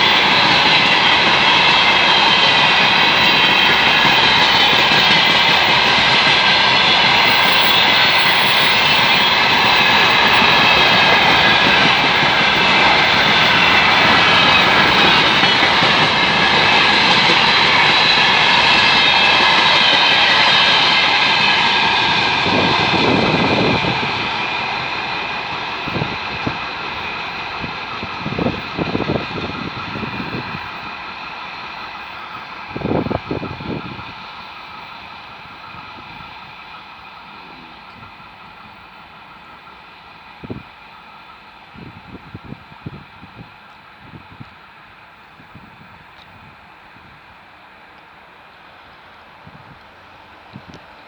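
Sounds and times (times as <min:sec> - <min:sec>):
diesel locomotive engine whine: 0:00.0 - 0:51.0.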